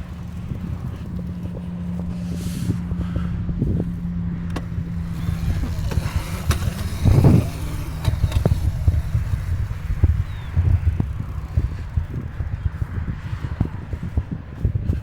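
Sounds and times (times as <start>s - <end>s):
rough engine burst: 0.0s - 12.2s
vehicle engine humming: 0.0s - 15.0s.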